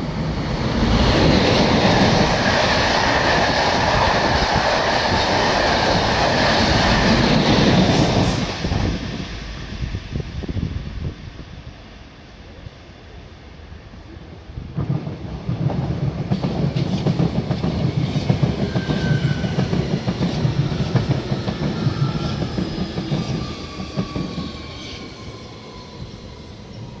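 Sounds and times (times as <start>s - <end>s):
train passing with loud rumble: 0.0s - 27.0s.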